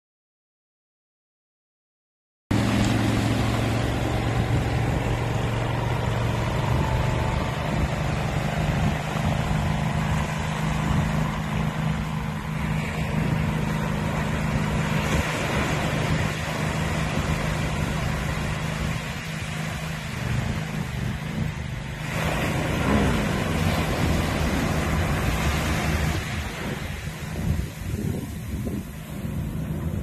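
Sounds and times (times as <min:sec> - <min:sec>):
boat engine running: 0:02.5 - 0:30.0
rush of water: 0:02.5 - 0:30.0
wind and surf hiss: 0:02.5 - 0:30.0.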